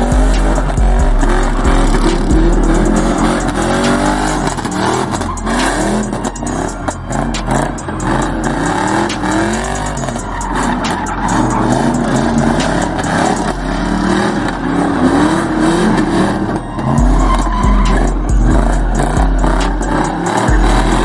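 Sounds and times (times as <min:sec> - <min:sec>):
car engine revving: 0:00.0 - 0:21.0
tyre squeal: 0:00.0 - 0:21.0.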